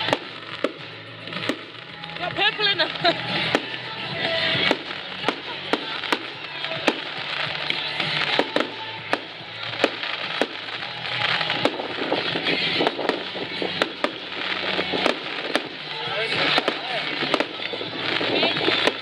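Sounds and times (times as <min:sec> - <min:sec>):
crackling hiss of fireworks: 0:00.0 - 0:19.0
fireworks bangs: 0:00.0 - 0:19.0.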